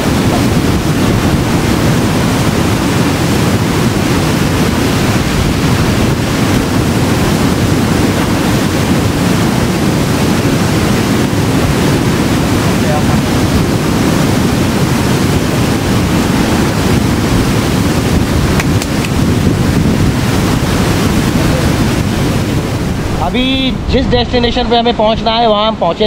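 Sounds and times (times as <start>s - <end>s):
river rushing over stones: 0.0s - 23.9s.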